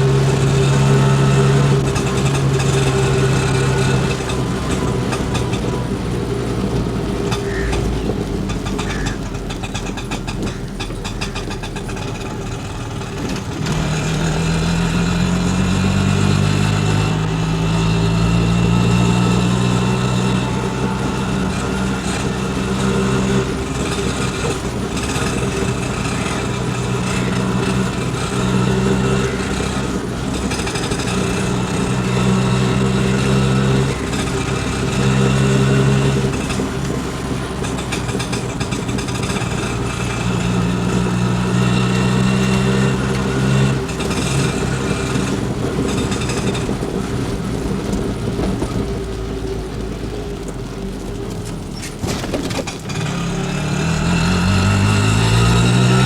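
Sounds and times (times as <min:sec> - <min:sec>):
auto rickshaw engine running: 0:00.0 - 0:56.0.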